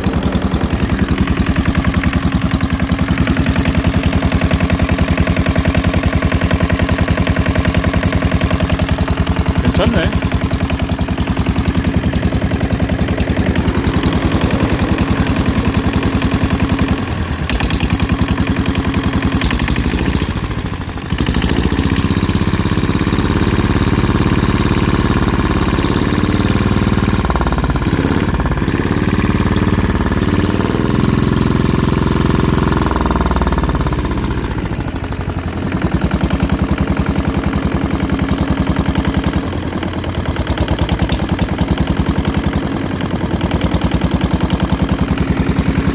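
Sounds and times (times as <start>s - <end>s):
diesel engine knocking: 0.0s - 45.9s.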